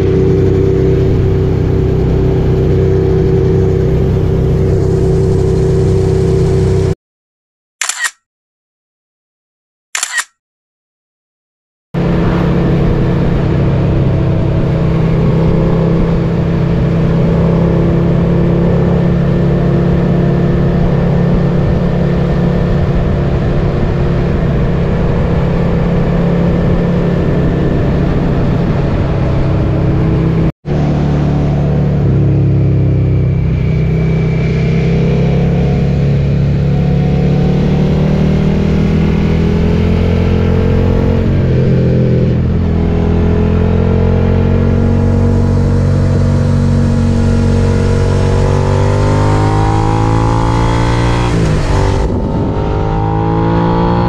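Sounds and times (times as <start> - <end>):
motorcycle engine cruising: 0.0 - 7.0, 12.0 - 54.0.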